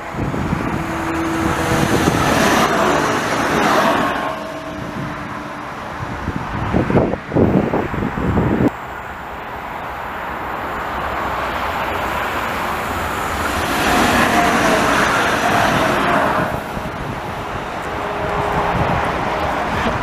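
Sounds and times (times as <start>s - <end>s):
tram passing on rails: 0.0s - 20.0s.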